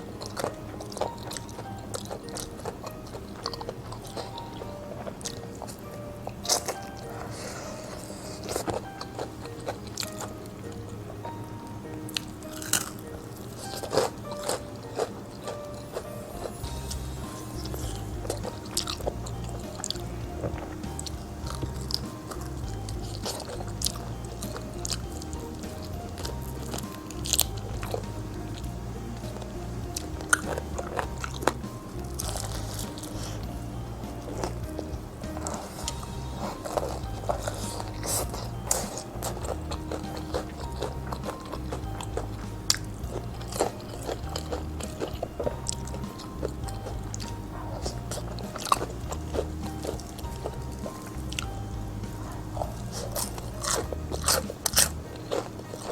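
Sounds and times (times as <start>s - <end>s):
background music: 0.0s - 55.9s
biting and chewing crisp food: 0.0s - 55.9s.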